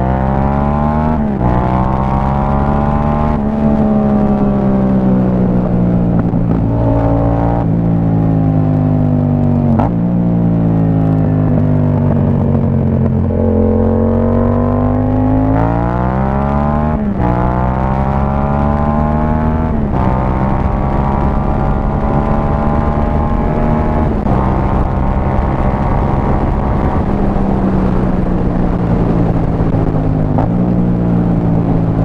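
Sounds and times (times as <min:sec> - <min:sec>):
motorcycle accelerating through gears: 0:00.0 - 0:32.0.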